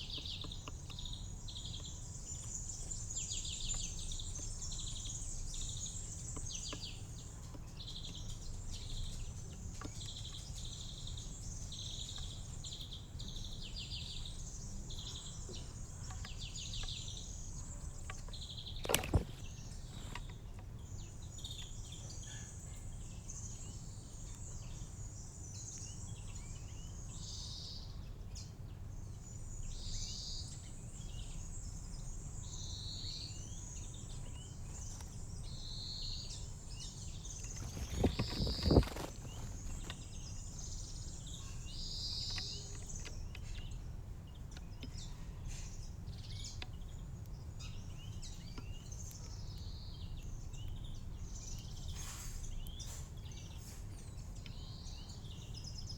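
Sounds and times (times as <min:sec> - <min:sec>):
small songbirds chirping: 0:00.0 - 0:55.9.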